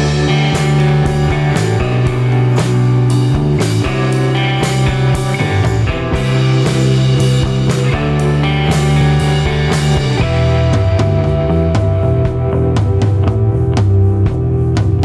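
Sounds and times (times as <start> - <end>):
instrumental music with drum beat: 0.0 - 15.0.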